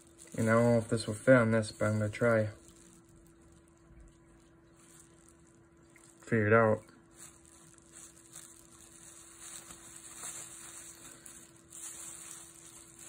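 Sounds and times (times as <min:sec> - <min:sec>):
bubble wrap rustling and crinkling: 0:00.0 - 0:13.0
faint steady hum: 0:00.0 - 0:13.0.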